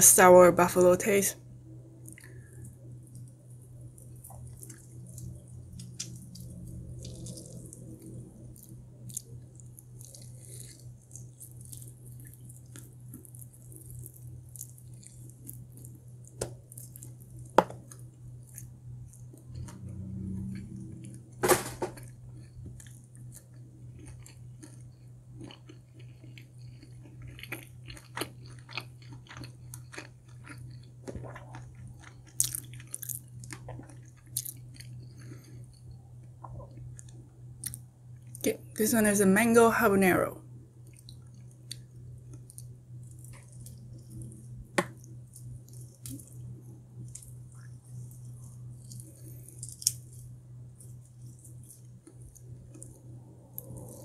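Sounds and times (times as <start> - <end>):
steady low hum: 0.0 - 54.0
chewing and biting: 3.0 - 21.2, 21.9 - 38.4, 40.8 - 54.0.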